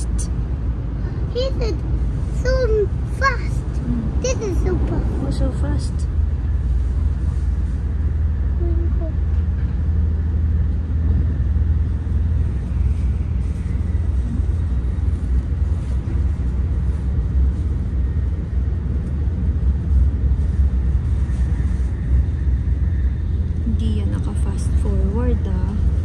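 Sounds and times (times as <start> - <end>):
train rumbling at speed: 0.0 - 26.0.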